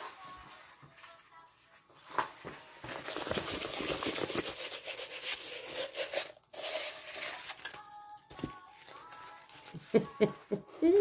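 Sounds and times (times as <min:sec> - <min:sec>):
plastic sheet crinkling: 0:00.0 - 0:11.0.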